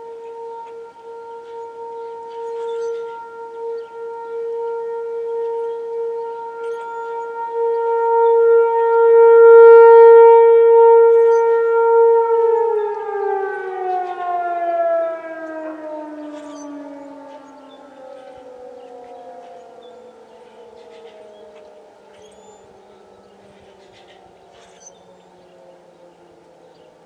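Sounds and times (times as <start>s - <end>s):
tornado siren wailing: 0.0s - 27.0s.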